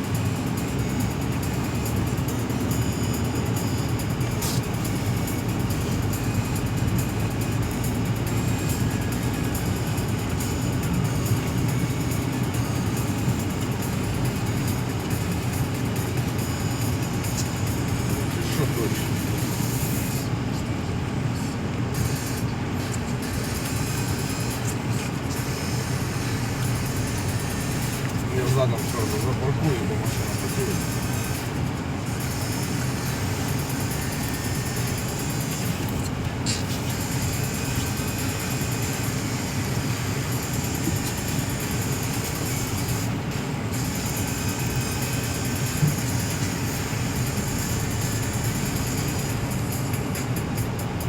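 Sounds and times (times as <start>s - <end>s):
car engine hum: 0.0s - 51.0s
tyre and road noise: 0.0s - 51.0s.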